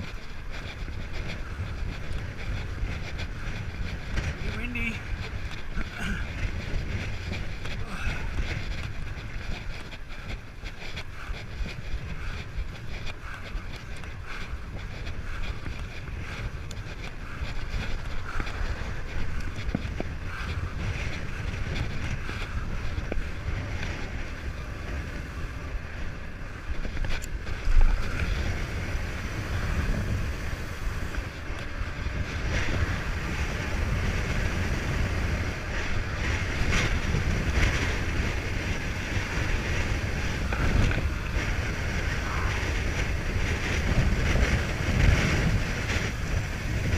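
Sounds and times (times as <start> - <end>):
mountain bike rattling on dirt trail: 0.0 - 46.9
wind buffeting microphone: 0.0 - 46.9.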